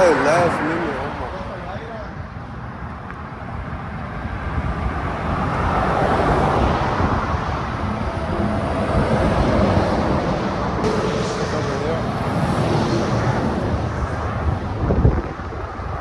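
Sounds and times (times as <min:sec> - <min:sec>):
road vehicle noise: 0:00.0 - 0:16.0.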